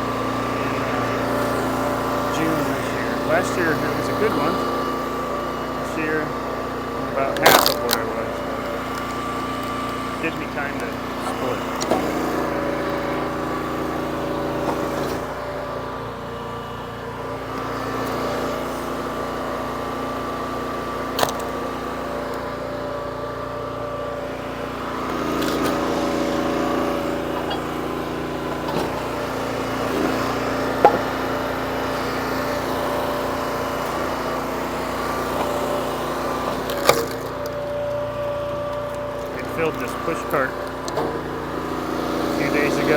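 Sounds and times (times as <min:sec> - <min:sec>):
log splitter gas engine running: 0:00.0 - 0:42.9.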